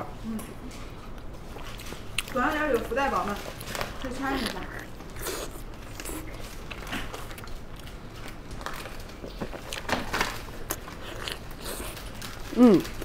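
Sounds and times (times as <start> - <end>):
chewing: 0.7 - 13.0.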